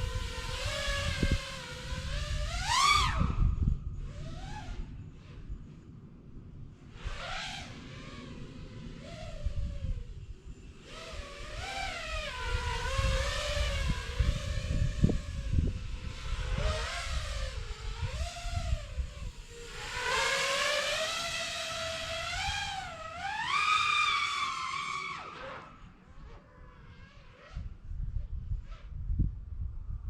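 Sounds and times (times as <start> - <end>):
drone motors whining: 0.0 - 5.8, 6.8 - 27.7.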